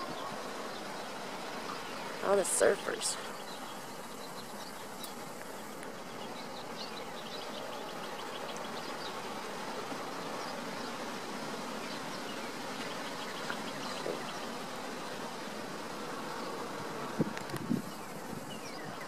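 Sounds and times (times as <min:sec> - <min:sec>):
distant breaking surf: 0:00.0 - 0:18.8
insects chirping: 0:00.0 - 0:19.0.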